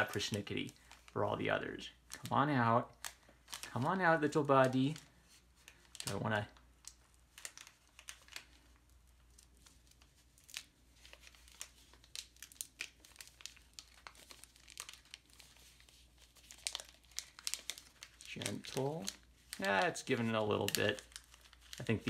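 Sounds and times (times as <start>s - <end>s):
plastic wrapper crinkling: 0.0s - 22.0s.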